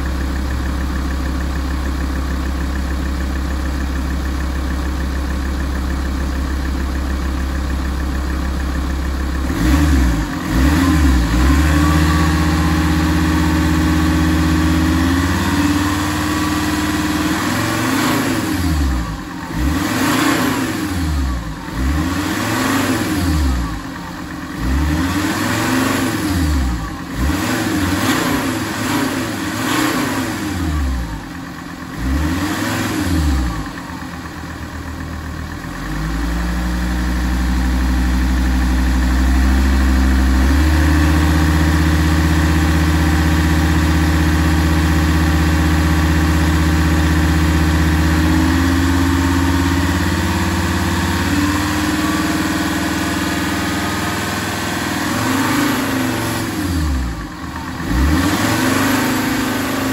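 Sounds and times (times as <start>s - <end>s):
diesel car engine revving: 0.0s - 59.9s.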